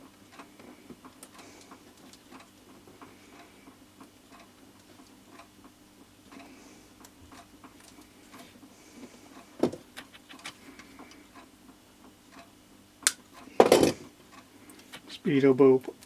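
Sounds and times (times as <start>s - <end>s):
faint ticking and small clicks: 0.1s - 13.5s, 14.1s - 16.0s.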